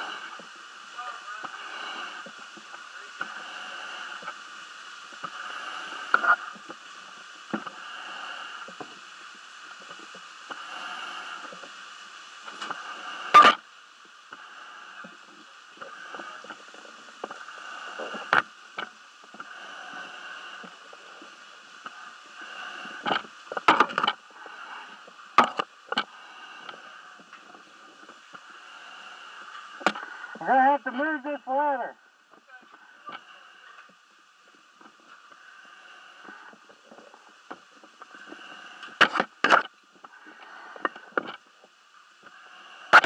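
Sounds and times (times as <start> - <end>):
muffled narrow hiss: 0.0 - 43.0.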